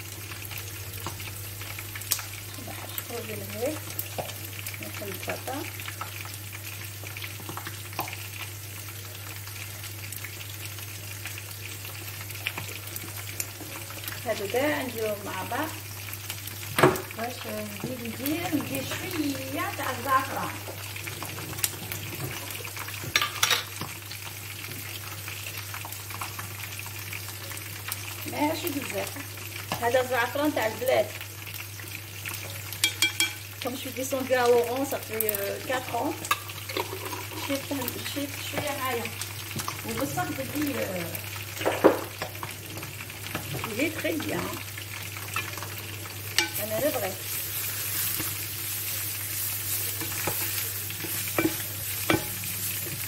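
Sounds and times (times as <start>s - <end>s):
onions sizzling in hot oil: 0.0s - 53.0s.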